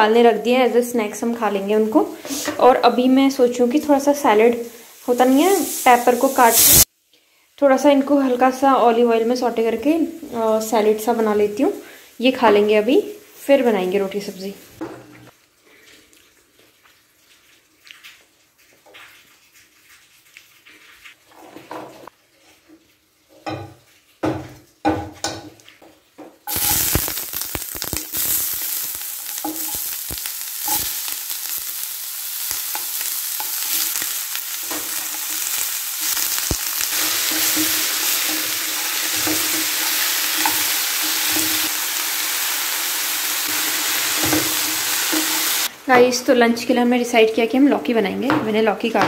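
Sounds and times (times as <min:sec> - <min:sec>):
peppers sizzling in oil: 0:00.0 - 0:06.9, 0:07.8 - 0:15.8, 0:22.6 - 0:49.0.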